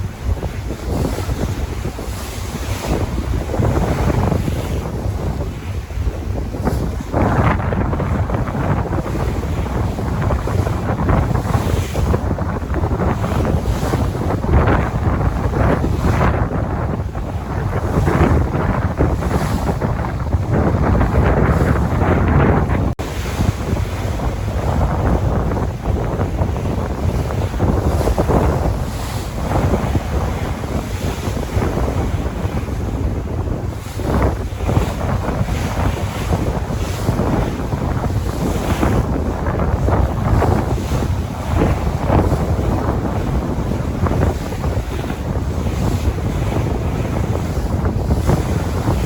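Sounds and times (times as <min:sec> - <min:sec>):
sea waves washing: 0:00.0 - 0:49.0
wind buffeting microphone: 0:00.0 - 0:49.0.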